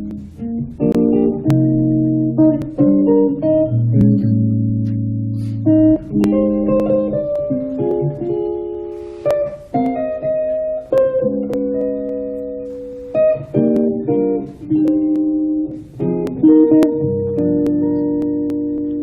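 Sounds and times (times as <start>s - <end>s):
guitar playing slow jazz ballad: 0.0s - 19.0s.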